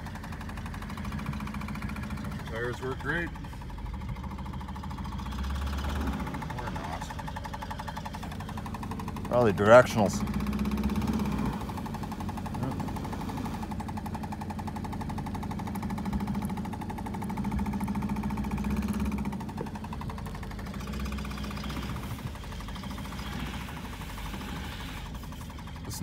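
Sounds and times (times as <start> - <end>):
car engine pulsing: 0.0 - 26.0.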